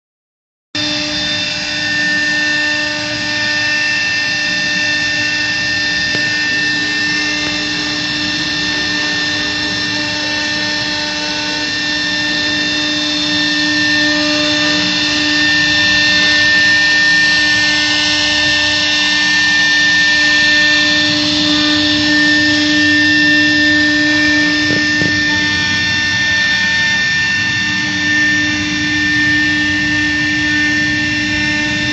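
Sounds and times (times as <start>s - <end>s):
router spindle whine: 0.8s - 31.9s.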